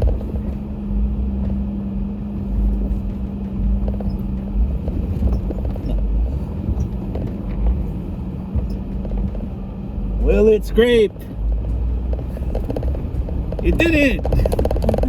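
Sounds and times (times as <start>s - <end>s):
engine rumbling at low speed: 0.0s - 15.0s.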